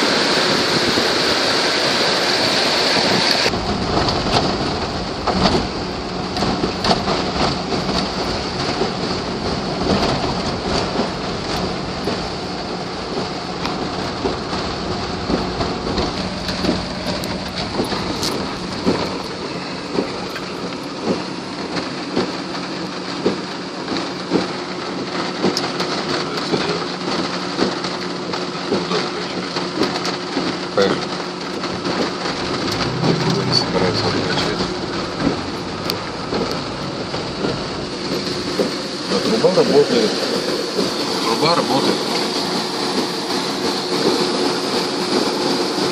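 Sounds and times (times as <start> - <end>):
heavy rain on a car: 0.0 - 45.9.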